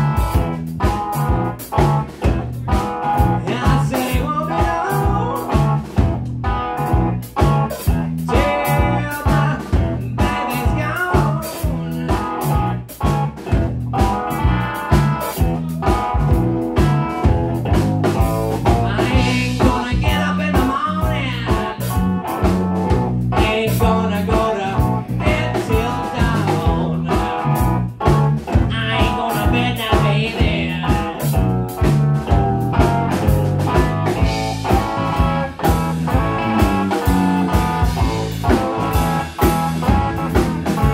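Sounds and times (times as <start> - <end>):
bass guitar: 0.0 - 40.9
drum kit steady beat: 0.0 - 40.9
electric guitar: 0.0 - 40.9.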